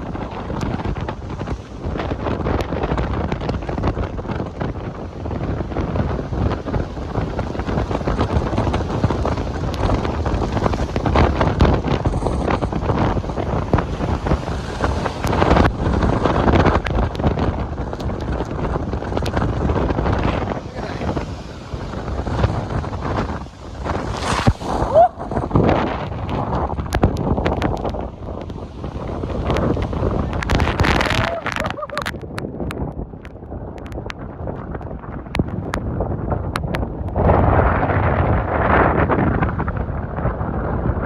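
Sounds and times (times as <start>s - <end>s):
wind gusts buffeting microphone: 0.0s - 41.0s.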